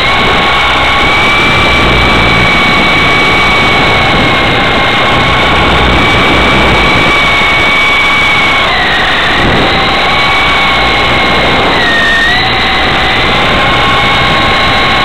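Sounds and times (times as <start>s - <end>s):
high motor whine: 0.0s - 15.0s
rotors rushing: 0.0s - 15.0s.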